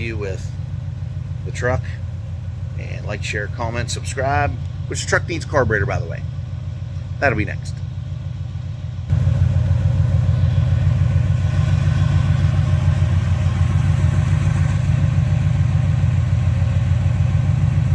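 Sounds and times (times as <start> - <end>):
pickup engine idling: 0.0 - 17.9.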